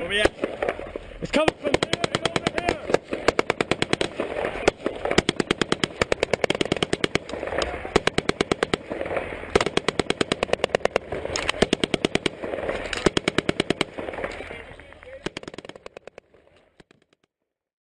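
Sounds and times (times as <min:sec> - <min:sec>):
automatic gunfire: 0:00.1 - 0:14.6, 0:15.2 - 0:16.4.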